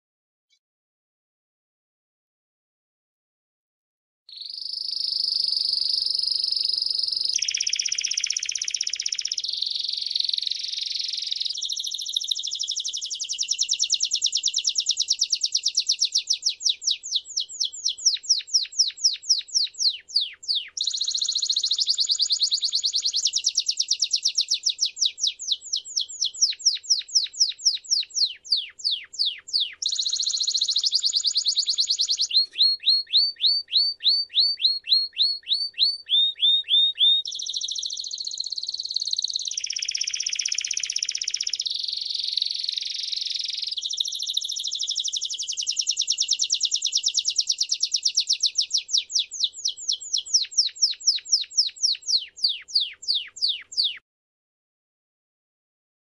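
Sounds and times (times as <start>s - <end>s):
canary singing: 4.3s - 54.0s.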